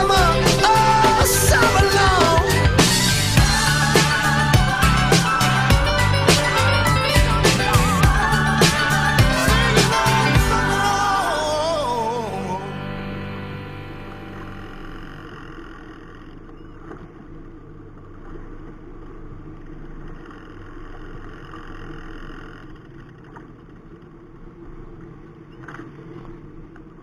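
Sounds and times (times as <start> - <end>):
boat engine running: 0.0 - 26.6.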